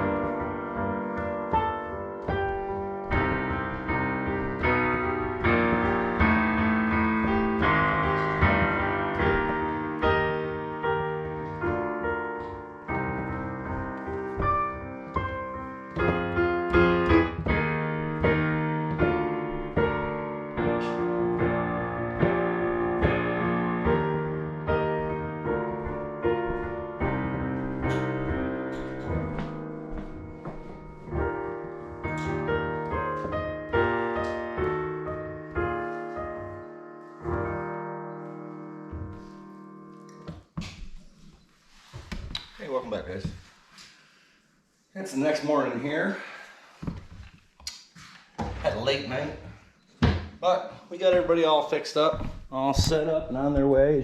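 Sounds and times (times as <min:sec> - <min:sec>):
background piano music: 0:00.0 - 0:43.6, 0:48.7 - 0:54.0.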